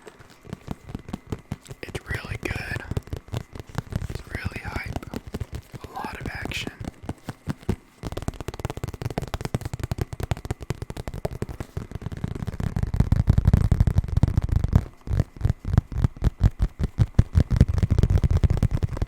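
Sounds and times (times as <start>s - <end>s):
rapid tapping on a hard object: 0.0s - 19.0s.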